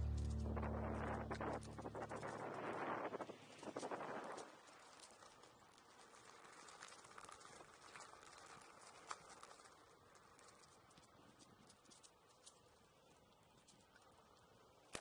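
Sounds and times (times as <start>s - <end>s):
tyre rolling on paved path: 0.0s - 13.7s.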